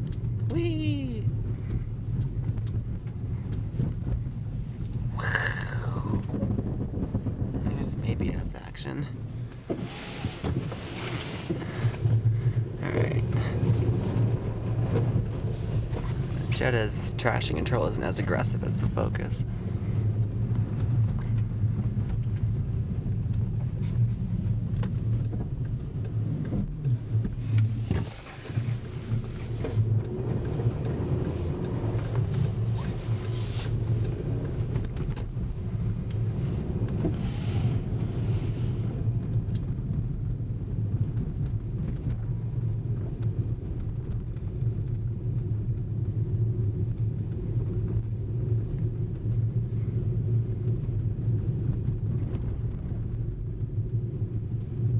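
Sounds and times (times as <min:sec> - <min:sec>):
car engine droning: 0:00.0 - 0:54.9.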